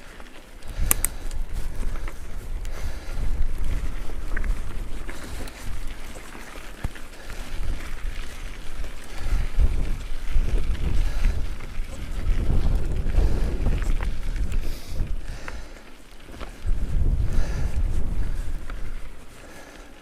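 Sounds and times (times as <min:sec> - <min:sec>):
wind buffeting microphone: 0:00.0 - 0:19.9
bike tyres rolling on gravel: 0:00.0 - 0:20.0.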